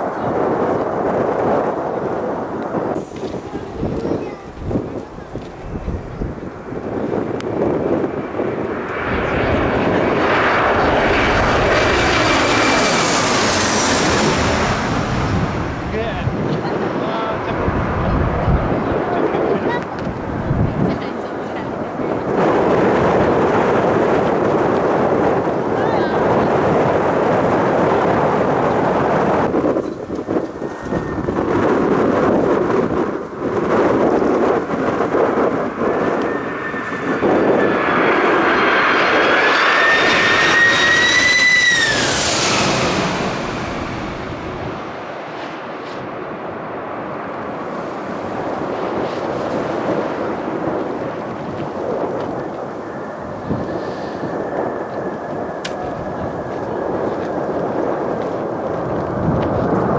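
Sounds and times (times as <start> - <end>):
airliner passing overhead: 0.0 - 59.9
wind rumble on microphone: 0.0 - 59.9.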